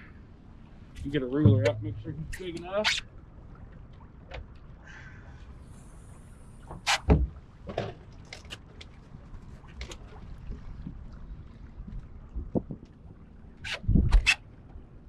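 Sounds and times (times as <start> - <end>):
water and wind: 0.0 - 15.0.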